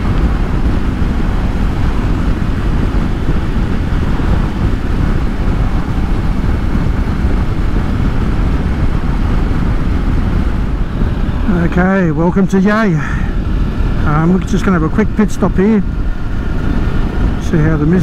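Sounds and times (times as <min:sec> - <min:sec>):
motorcycle road noise: 0:00.0 - 0:18.0
wind rush: 0:00.0 - 0:18.0.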